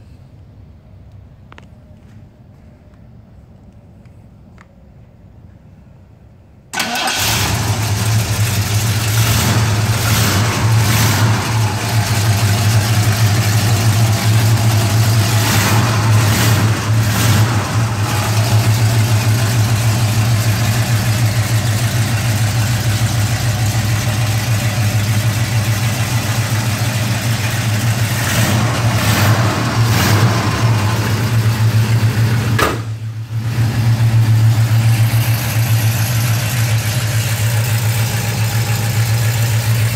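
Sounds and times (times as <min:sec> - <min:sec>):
car engine idling: 0:06.8 - 0:39.9.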